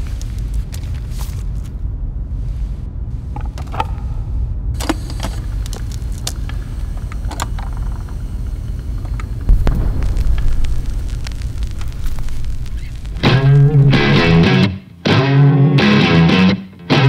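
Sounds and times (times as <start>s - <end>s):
turntable low rumble: 0.0s - 14.9s.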